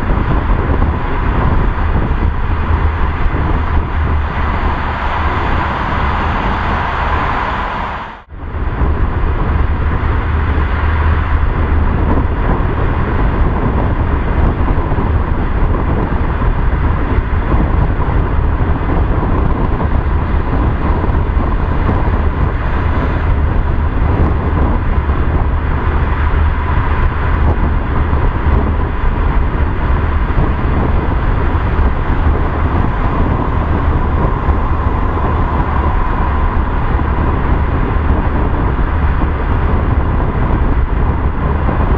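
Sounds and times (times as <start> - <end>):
car road noise rumble: 0.0 - 41.9.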